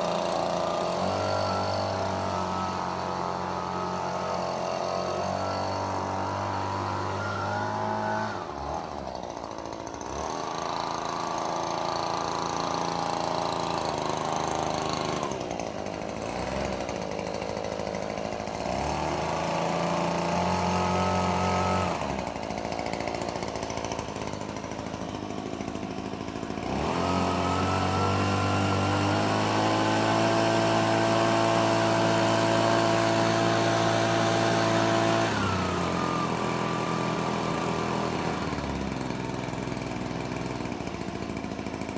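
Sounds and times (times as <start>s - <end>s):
leaf blower engine revving: 0.0s - 41.9s.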